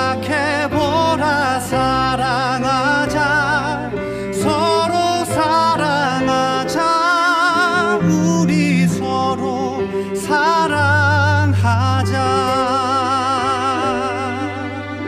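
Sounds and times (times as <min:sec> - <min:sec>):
instrumental backing: 0:00.0 - 0:15.0
person singing with vibrato: 0:00.0 - 0:15.0.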